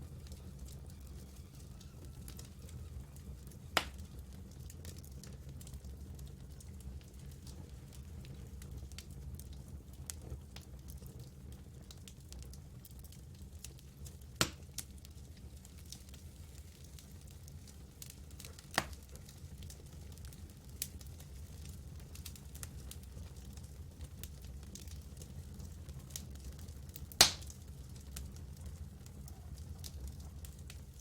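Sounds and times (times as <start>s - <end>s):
campfire crackling: 0.0s - 31.0s
loud campfire pops: 0.2s - 12.6s, 13.7s - 15.2s, 15.8s - 30.8s.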